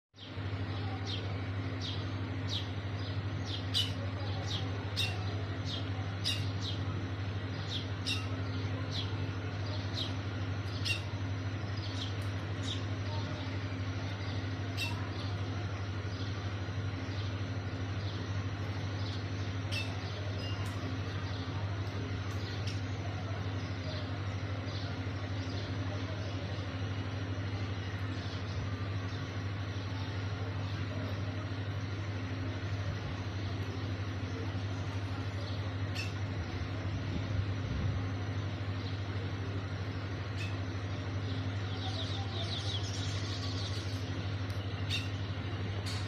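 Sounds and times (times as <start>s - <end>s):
steady low hum: 0.2s - 46.0s.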